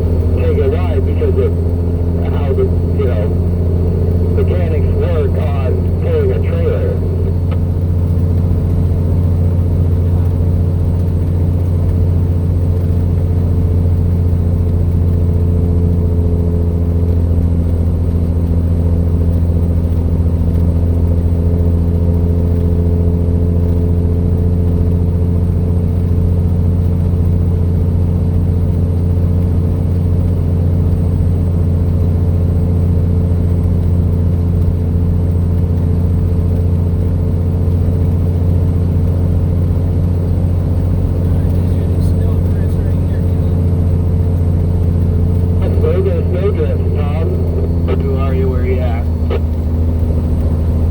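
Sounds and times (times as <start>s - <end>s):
truck engine droning: 0.0s - 26.1s, 30.7s - 50.9s.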